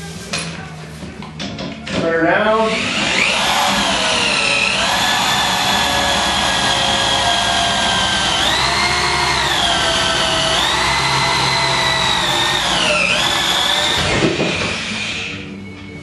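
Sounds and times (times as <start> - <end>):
electric drill motor whine: 2.7 - 15.6.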